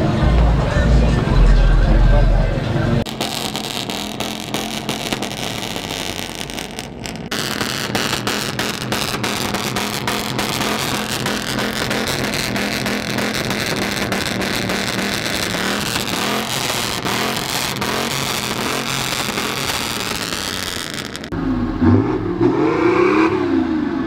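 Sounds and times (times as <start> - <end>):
exhaust crackles: 0.0 - 24.0
pickup engine revving: 0.0 - 24.0.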